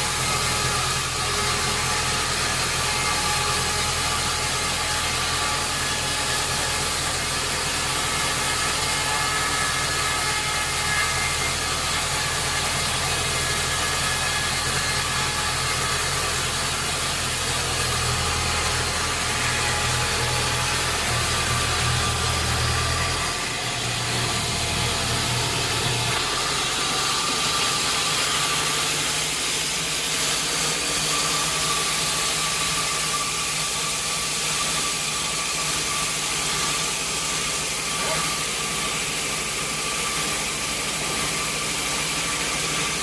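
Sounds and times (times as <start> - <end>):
sawmill machinery humming: 0.0 - 43.0.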